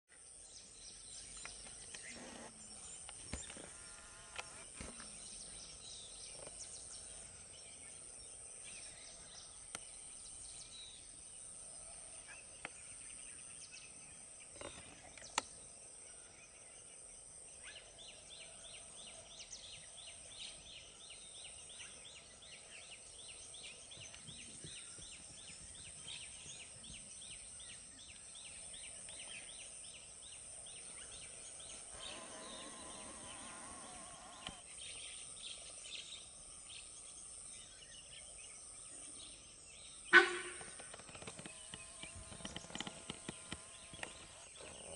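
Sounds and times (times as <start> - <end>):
insects droning: 0.2 - 44.9.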